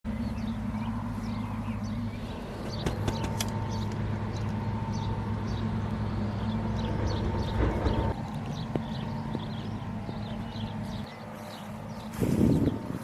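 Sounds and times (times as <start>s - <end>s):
small birds chirping: 0.1s - 13.0s
steady low hum: 0.1s - 13.0s.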